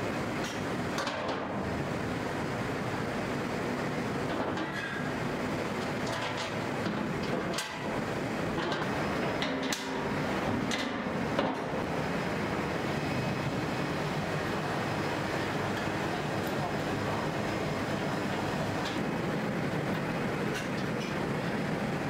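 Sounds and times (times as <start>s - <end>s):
factory machinery din: 0.0s - 22.0s.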